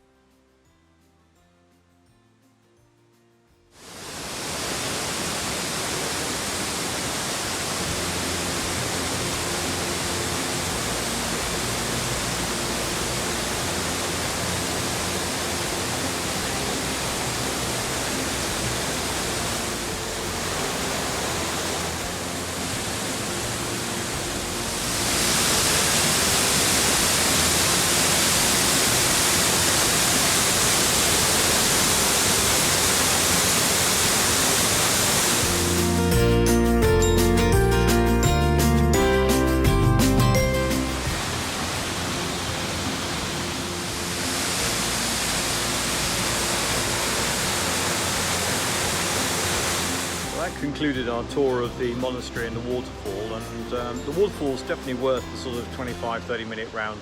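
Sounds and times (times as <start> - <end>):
waterfall rushing: 3.8 - 38.2, 39.2 - 57.0.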